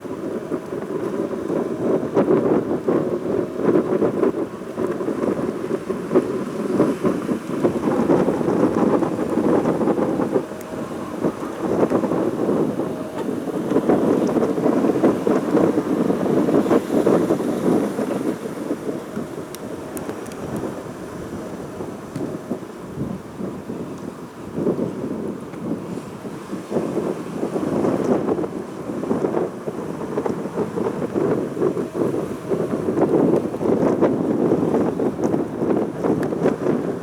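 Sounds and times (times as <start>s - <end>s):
strong wind buffeting microphone: 0.0s - 37.0s.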